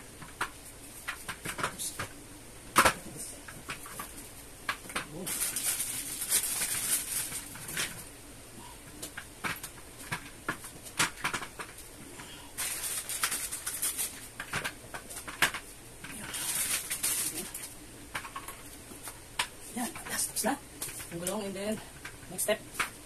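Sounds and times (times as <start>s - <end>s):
rustling: 2.8s - 23.0s.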